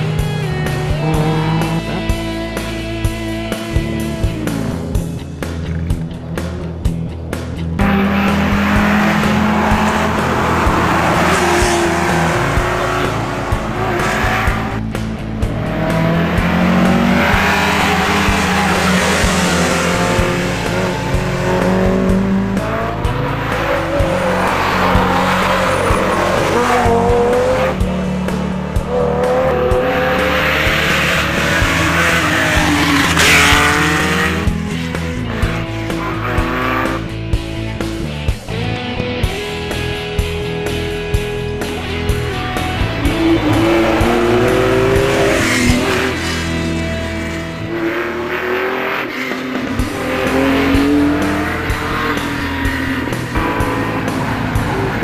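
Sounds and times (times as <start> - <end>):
background music: 0.0 - 55.0
rally car engines revving: 0.0 - 55.0.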